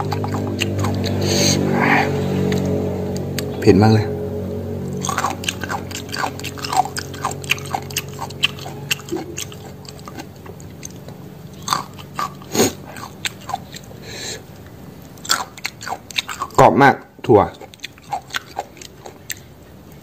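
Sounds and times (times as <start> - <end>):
person chewing crunchy salad: 0.0 - 3.5, 4.5 - 16.6, 17.5 - 20.0.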